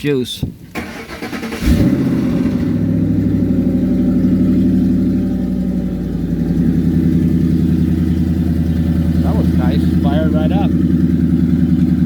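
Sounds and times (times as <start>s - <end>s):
car engine starting and idling: 0.7s - 12.0s.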